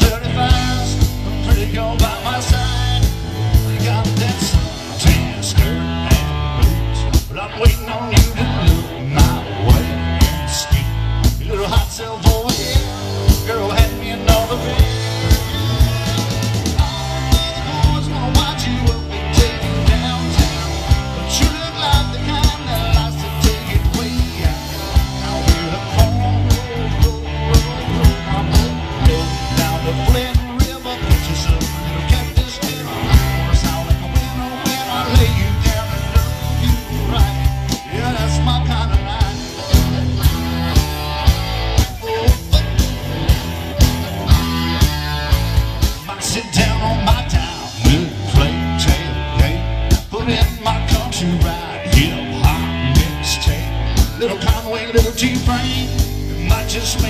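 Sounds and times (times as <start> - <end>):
drum kit beat: 0.0 - 57.0
electric guitars: 0.0 - 57.0.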